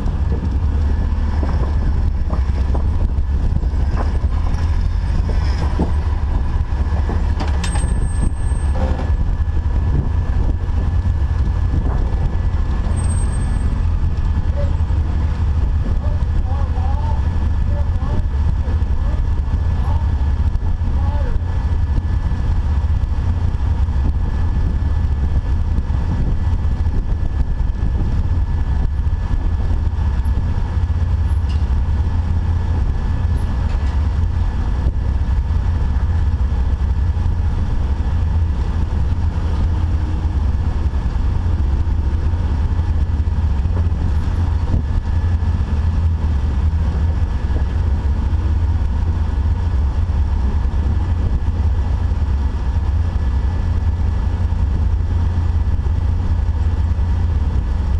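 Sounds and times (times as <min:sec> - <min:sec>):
engine rumbling: 0:00.0 - 0:57.9.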